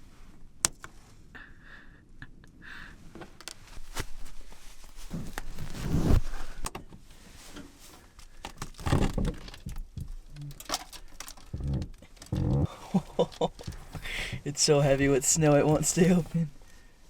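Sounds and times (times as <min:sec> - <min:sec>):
rustling: 0:03.1 - 0:17.0.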